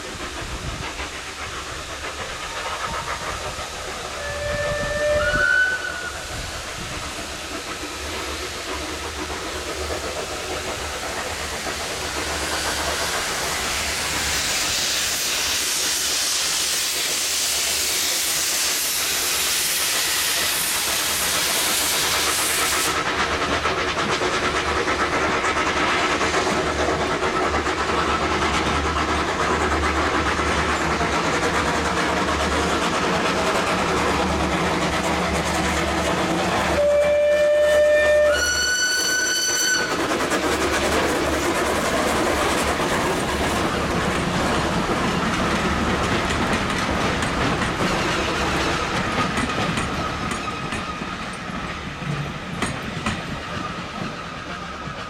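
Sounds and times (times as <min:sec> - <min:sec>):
steam engines running: 0:00.0 - 0:55.0
steam locomotive hissing: 0:00.0 - 0:55.0.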